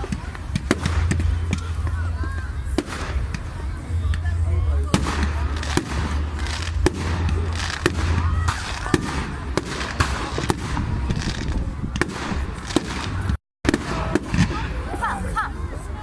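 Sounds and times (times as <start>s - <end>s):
fireworks bangs and crackles: 0.0s - 15.1s.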